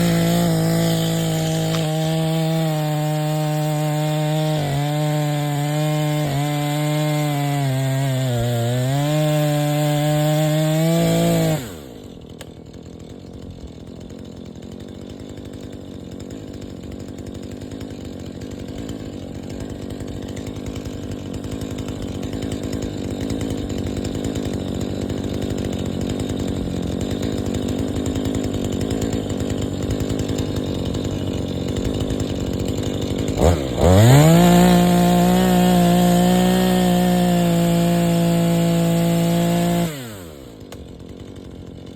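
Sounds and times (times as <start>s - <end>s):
chainsaw running at full throttle: 0.0s - 41.9s.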